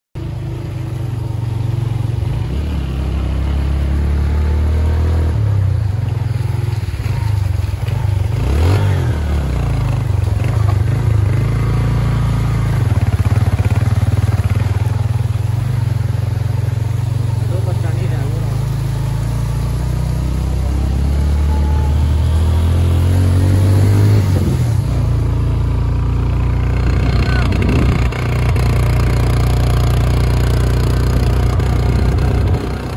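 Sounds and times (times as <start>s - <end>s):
motorcycle engine revving: 0.2s - 32.9s.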